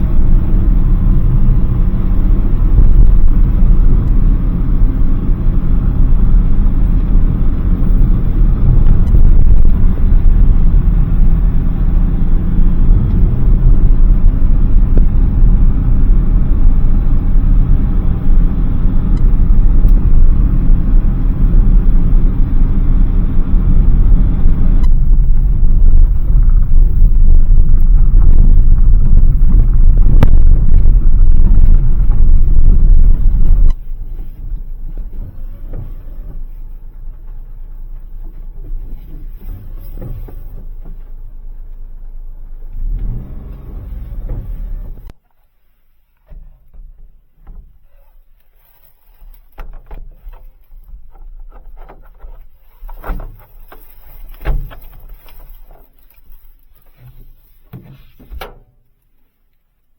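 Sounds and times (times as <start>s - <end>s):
road noise: 0.0s - 59.9s
van engine rumble: 0.0s - 59.9s.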